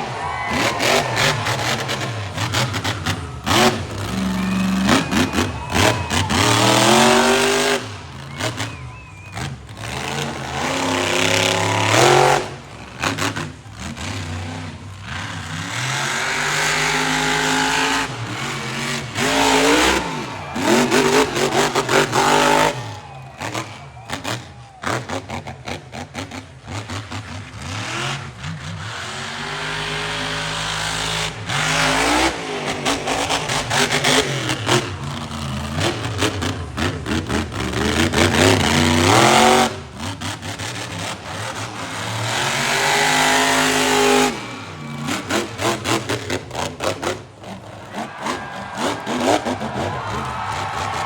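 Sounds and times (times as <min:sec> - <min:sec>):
truck engine revving hard: 0:00.0 - 0:51.0.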